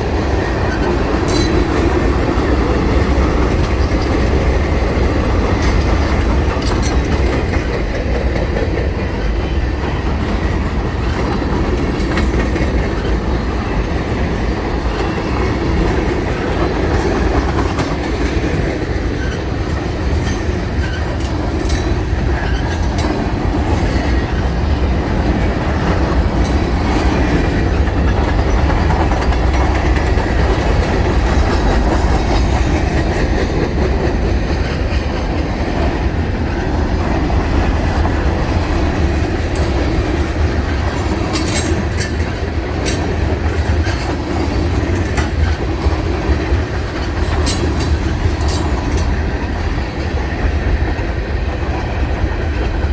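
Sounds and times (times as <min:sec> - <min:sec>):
train wheel and rail rumble: 0:00.0 - 0:52.9
wheels clicking over rail joints: 0:00.0 - 0:52.9.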